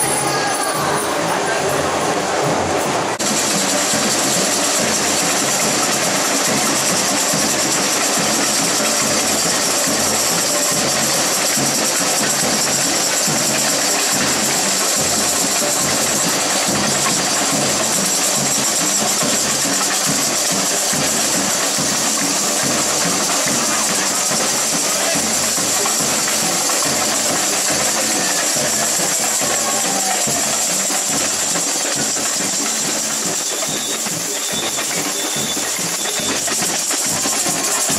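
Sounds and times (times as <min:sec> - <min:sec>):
jingling percussion: 0:00.0 - 0:37.9
samba band drums: 0:00.0 - 0:37.9.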